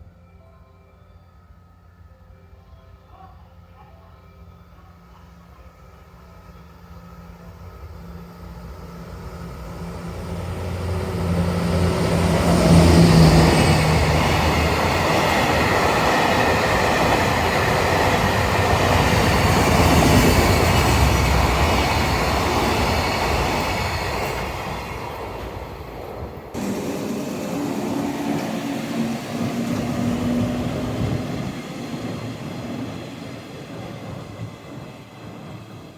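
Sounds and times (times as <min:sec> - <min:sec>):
train rumbling past: 0:05.2 - 0:35.9.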